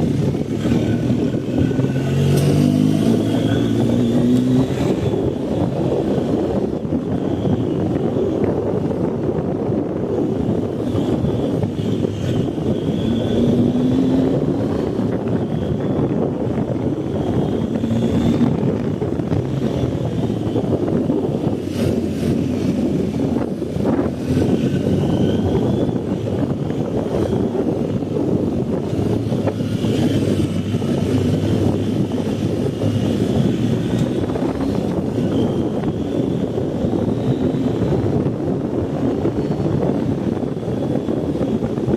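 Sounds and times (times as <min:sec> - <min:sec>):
steady rushing noise: 0:00.0 - 0:41.9.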